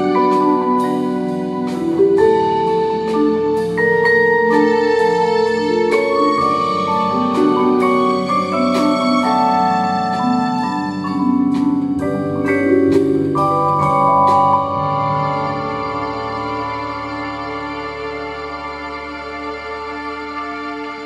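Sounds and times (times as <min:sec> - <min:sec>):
vibraphones and marimbas playing chords: 0:00.0 - 0:19.1.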